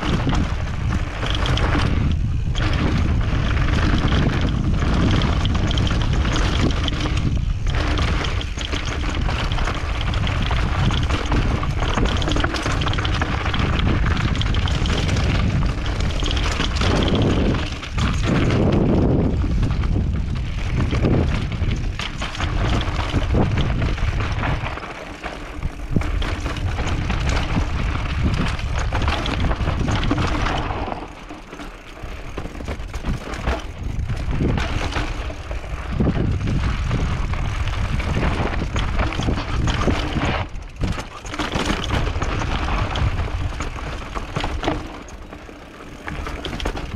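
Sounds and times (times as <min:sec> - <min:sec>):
wind buffeting microphone: 0:00.0 - 0:31.1, 0:31.7 - 0:44.8
bike rattling and knocking: 0:00.0 - 0:46.9
bike tyres rolling on dirt: 0:00.0 - 0:46.9.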